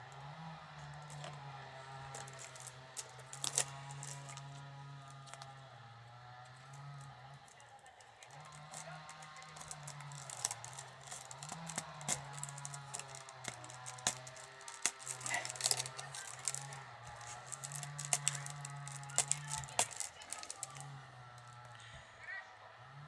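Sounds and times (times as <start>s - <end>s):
wicker rods clicking and creaking: 0.8s - 5.7s, 6.4s - 21.8s.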